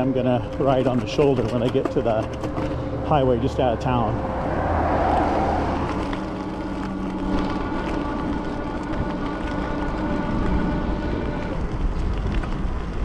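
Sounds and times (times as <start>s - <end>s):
electric bike rushing along street: 0.0s - 13.0s.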